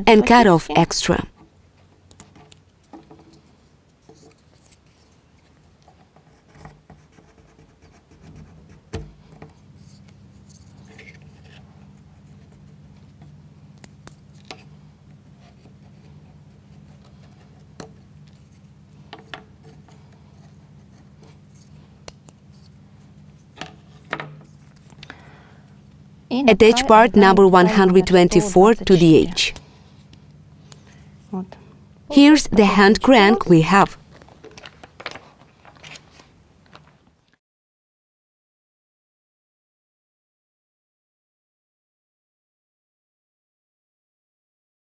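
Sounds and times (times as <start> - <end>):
faint steady low hum: 0.0 - 37.0.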